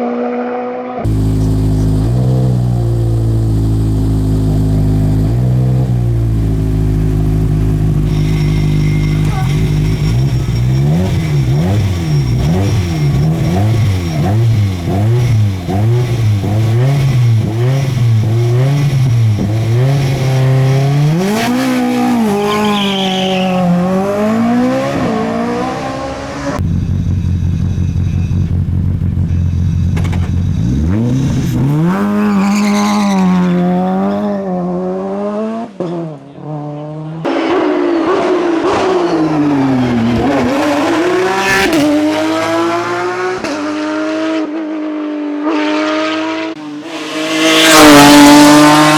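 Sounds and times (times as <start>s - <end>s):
racing car engines revving: 0.0s - 48.9s.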